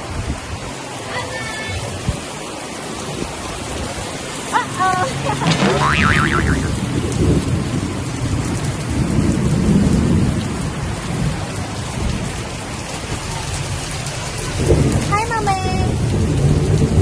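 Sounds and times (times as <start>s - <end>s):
rain hissing: 0.4s - 17.0s.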